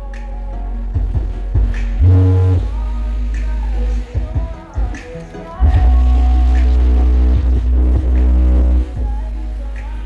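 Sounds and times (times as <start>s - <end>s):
loud music with deep bass: 0.0s - 10.0s.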